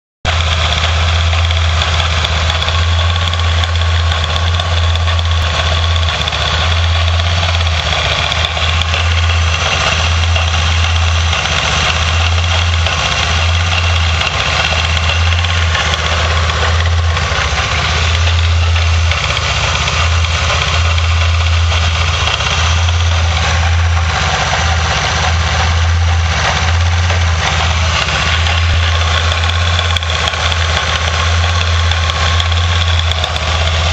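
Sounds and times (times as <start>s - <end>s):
motorcycle engine idling: 0.3s - 33.9s
odd mechanical noise: 0.3s - 33.9s.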